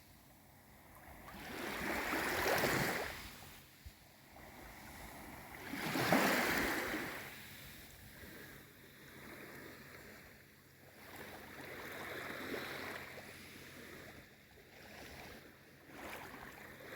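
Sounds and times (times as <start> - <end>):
gentle sea waves washing in: 0.9 - 16.9.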